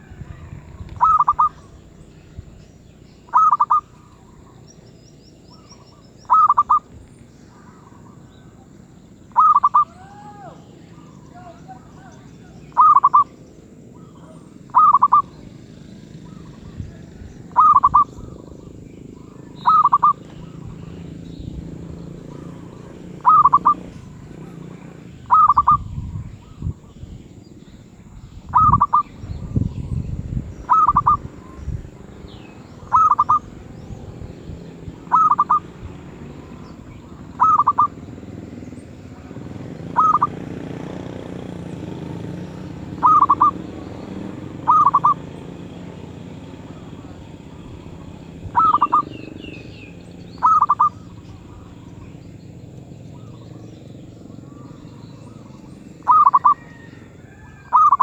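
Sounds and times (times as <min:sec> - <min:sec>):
dove cooing: 0:00.0 - 0:10.0, 0:10.7 - 0:58.0.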